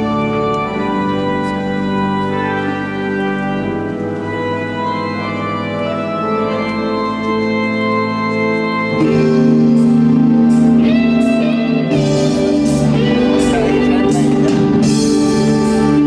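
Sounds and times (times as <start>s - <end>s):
church organ sustained chords: 0.0s - 16.0s.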